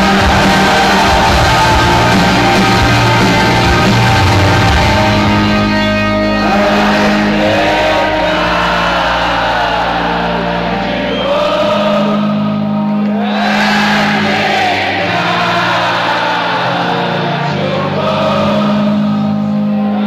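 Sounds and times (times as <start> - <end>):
crowd singing along: 0.0 - 20.0
live rock band: 0.0 - 20.0.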